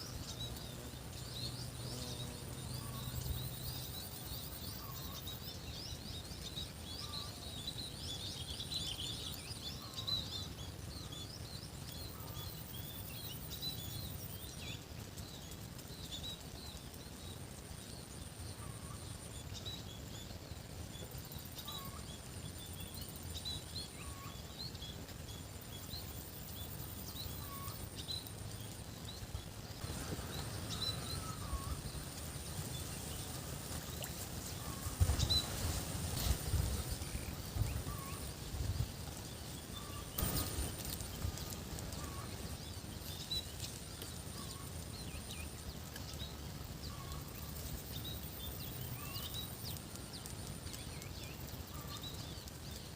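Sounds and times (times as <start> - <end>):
faint high hiss: 0.0 - 52.9
small birds chirping: 0.0 - 52.9.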